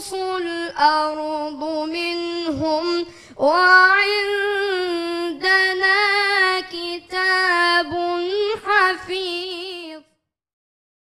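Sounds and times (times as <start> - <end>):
boy chanting melodic recitation: 0.0 - 10.1.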